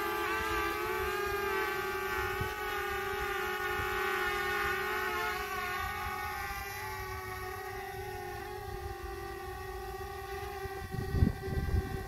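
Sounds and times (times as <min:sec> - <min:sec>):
drone propellers buzzing: 0:00.0 - 0:12.0.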